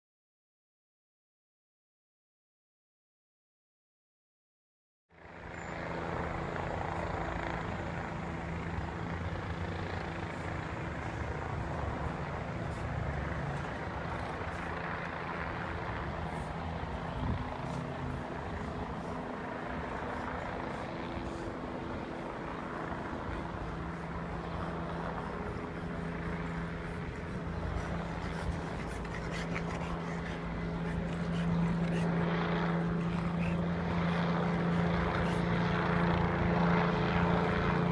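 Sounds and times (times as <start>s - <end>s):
helicopter drone: 5.1s - 37.9s.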